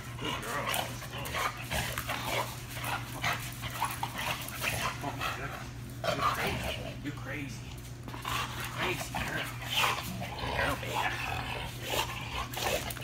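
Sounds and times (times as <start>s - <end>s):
dog panting and scuffling: 0.0s - 13.0s
steady low hum: 0.0s - 13.0s.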